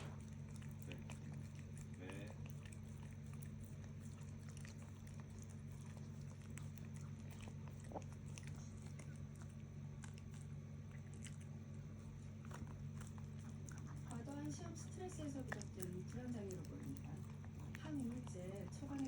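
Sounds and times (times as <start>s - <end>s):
dog licking and smacking: 0.0s - 19.0s
steady low hum: 0.0s - 19.0s.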